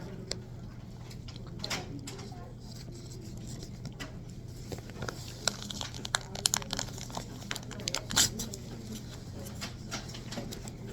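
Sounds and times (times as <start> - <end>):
crinkling and sharp clicks: 0.1 - 10.9.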